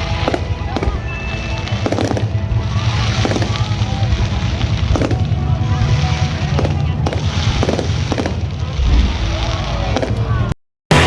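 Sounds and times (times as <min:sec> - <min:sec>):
fireworks bangs: 0:00.0 - 0:11.0
low rumble: 0:00.0 - 0:11.0
music: 0:00.0 - 0:11.0.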